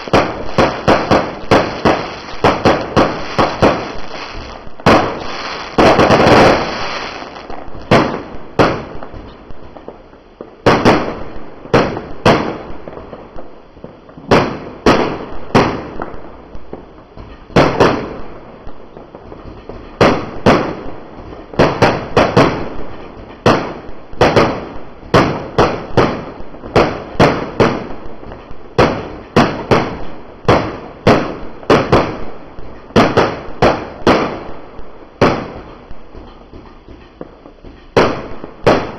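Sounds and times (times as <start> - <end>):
fireworks popping and banging: 0.0 - 38.9.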